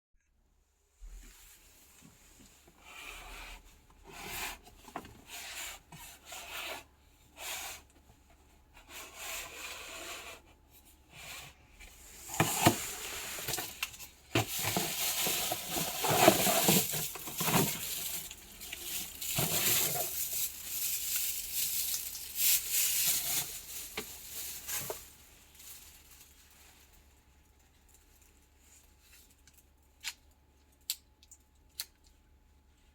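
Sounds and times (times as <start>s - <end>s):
rubbing and rustling handling noise: 0.9s - 30.5s.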